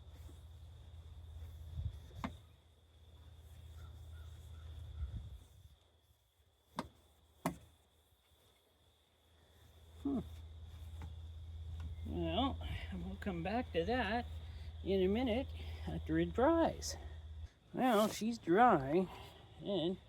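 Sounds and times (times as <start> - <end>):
faint low rumble: 0.0 - 5.8, 9.5 - 20.0.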